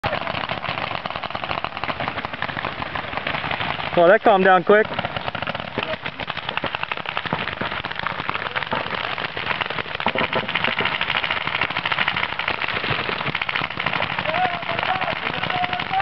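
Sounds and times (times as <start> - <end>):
paintball markers firing: 0.1 - 16.0.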